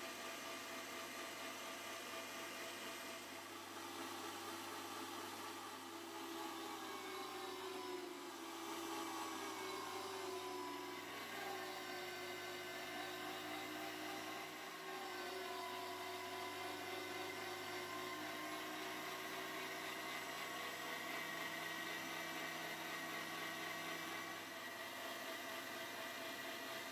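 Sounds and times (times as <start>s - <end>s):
electric meat grinder whirring: 0.0s - 26.9s.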